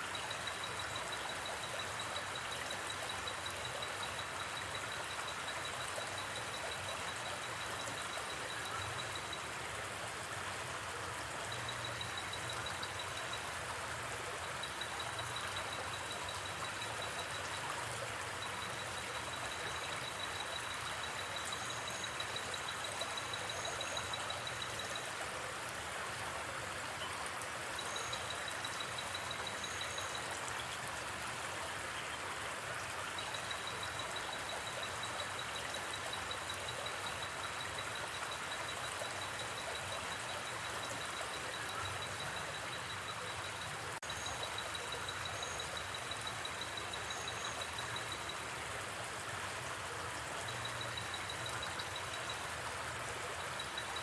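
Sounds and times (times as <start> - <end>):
flowing river: 0.0 - 54.0.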